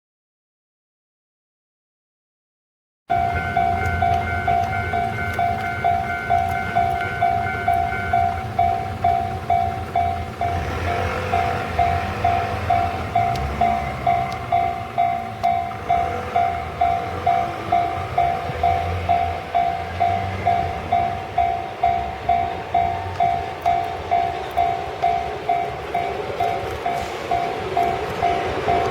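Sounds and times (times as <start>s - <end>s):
freight train rumbling past: 3.1s - 28.9s
level crossing warning bell: 3.1s - 28.9s.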